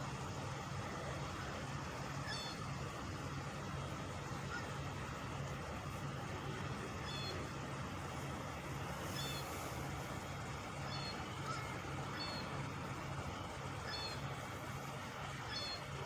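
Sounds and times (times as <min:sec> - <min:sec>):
industrial engine drone: 0:00.0 - 0:16.0.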